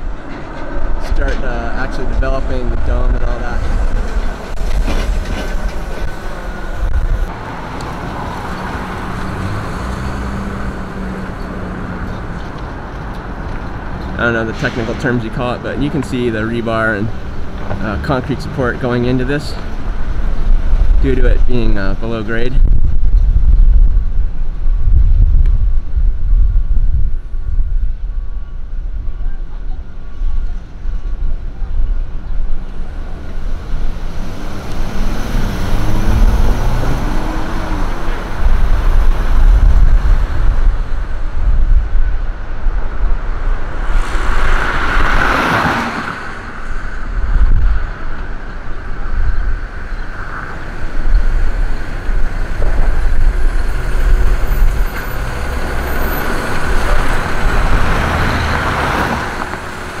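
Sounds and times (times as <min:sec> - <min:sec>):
vehicle passing close by: 0:00.0 - 0:21.5, 0:32.6 - 1:00.0
road traffic rumble: 0:00.0 - 1:00.0.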